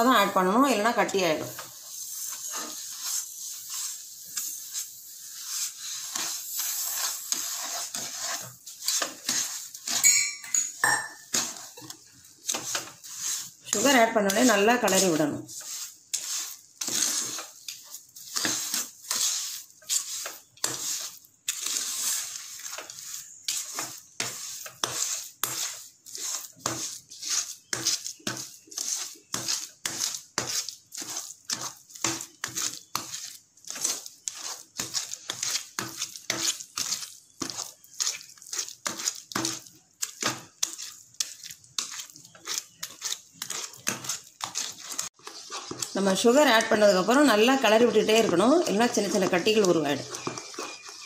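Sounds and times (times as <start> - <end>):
spatula scraping a nonstick pan: 0.0 - 51.0.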